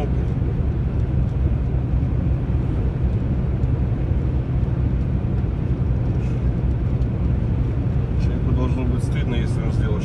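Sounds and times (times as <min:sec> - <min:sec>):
truck engine rumble: 0:00.0 - 0:10.0
tyre noise on road: 0:00.0 - 0:10.0.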